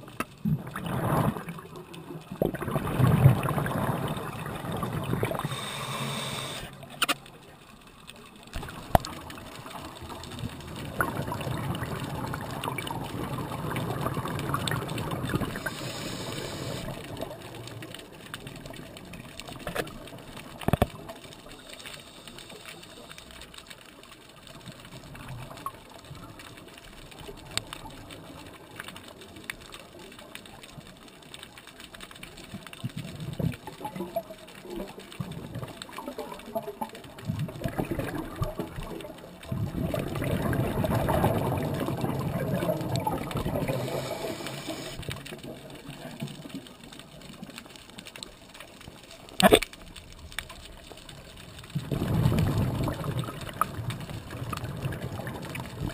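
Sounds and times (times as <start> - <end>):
underwater exhaled bubbles: 0.0 - 55.9.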